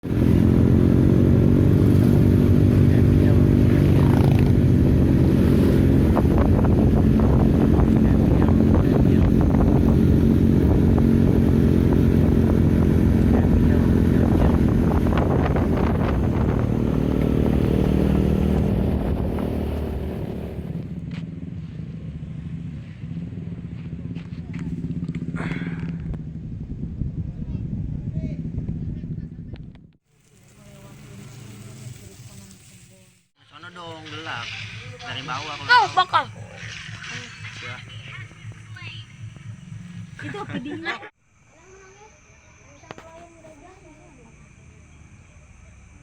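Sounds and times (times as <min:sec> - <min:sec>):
motorcycle engine running: 0:00.0 - 0:41.2.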